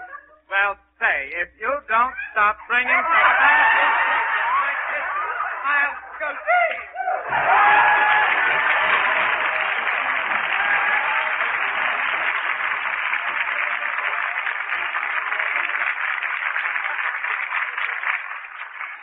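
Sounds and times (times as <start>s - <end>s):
audience applauding: 2.7s - 19.0s.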